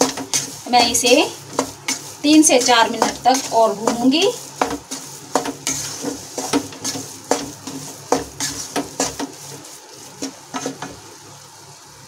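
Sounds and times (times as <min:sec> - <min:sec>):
spatula scraping metal pan: 0:00.0 - 0:11.0.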